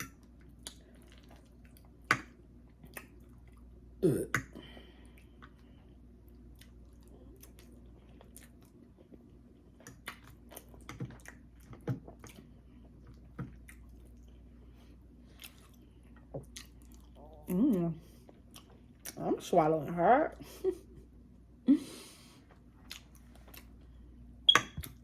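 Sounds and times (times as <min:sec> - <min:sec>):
person chewing food: 0:00.0 - 0:19.2, 0:22.4 - 0:24.1.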